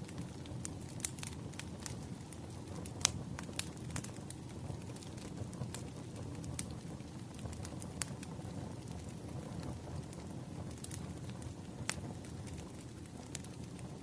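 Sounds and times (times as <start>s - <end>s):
fire crackles and pops: 0.0s - 14.0s
wood fire rumbling: 0.0s - 14.0s.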